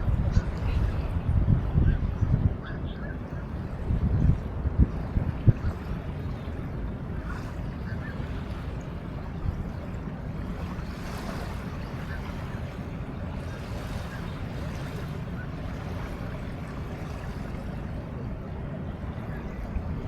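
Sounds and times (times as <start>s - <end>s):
river water: 0.0s - 20.0s
steady low rumble: 0.0s - 20.0s
wind: 0.0s - 20.0s.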